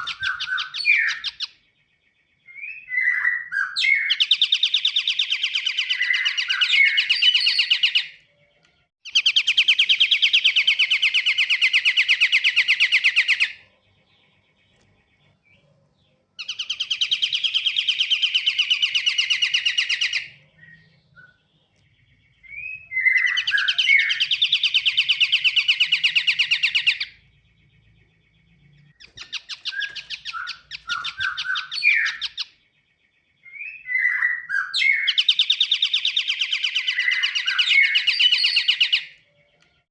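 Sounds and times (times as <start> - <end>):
bird chirps: 0.0 - 39.9
buzzy bird trills: 0.0 - 39.9.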